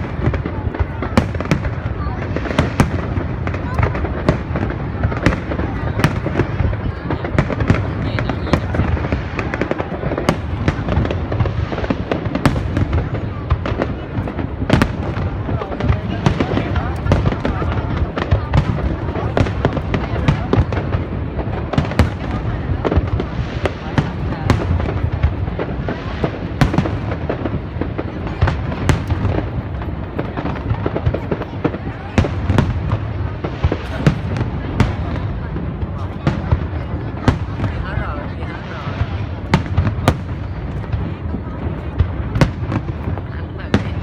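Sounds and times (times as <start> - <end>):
fireworks banging and crackling: 0.0 - 44.0
low rumble of bursting shells: 0.0 - 44.0.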